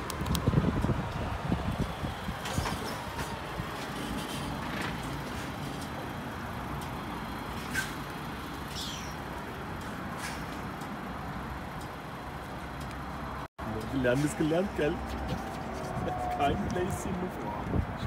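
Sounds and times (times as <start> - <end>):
road vehicles rumbling: 0.0 - 18.0.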